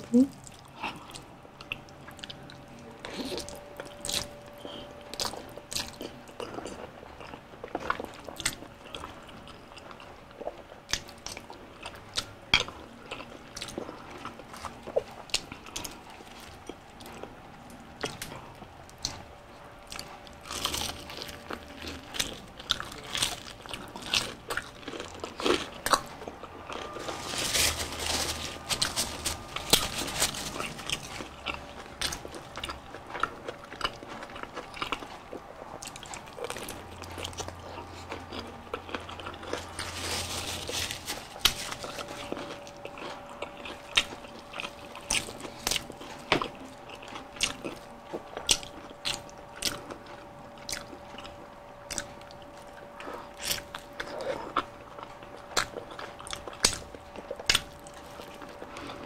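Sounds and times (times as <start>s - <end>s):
crunching fried chicken: 0.1s - 59.0s
wet chewing and mouth clicks: 0.2s - 27.1s, 28.3s - 39.9s, 41.2s - 59.0s.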